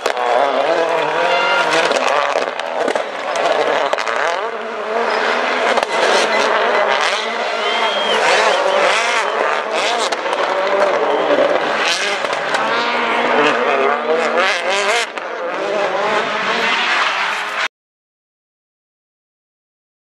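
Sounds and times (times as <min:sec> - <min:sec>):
rally car engine revving: 0:00.0 - 0:17.7.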